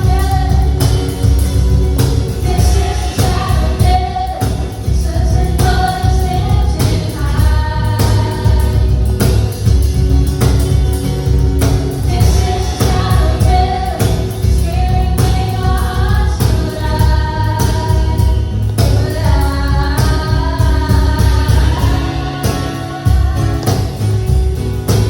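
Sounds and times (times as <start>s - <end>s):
band with heavy bass: 0.0s - 25.0s
voices singing held notes: 2.0s - 9.5s, 11.9s - 25.0s.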